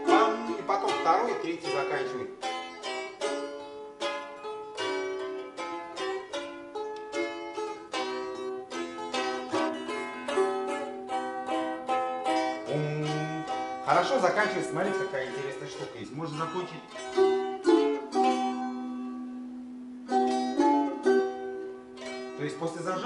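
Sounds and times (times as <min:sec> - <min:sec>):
balalaikas playing: 0:00.0 - 0:23.0.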